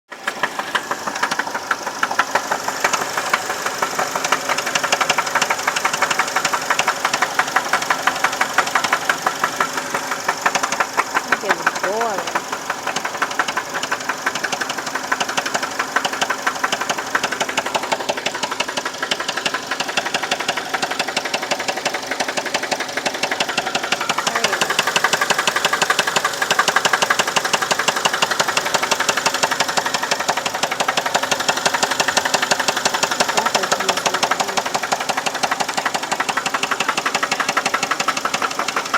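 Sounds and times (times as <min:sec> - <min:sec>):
car engine running: 0:00.1 - 0:38.9
rapid even engine knocking: 0:00.1 - 0:38.9.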